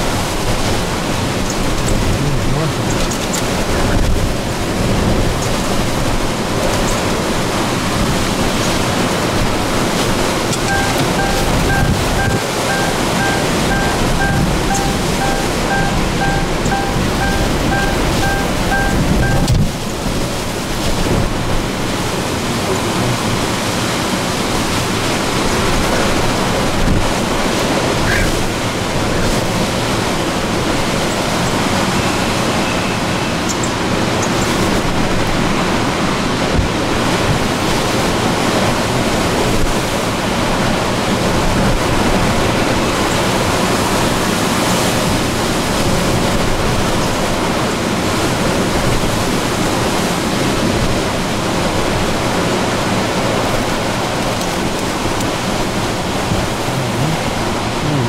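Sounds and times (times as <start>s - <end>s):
wind and rain rushing: 0.0s - 58.0s.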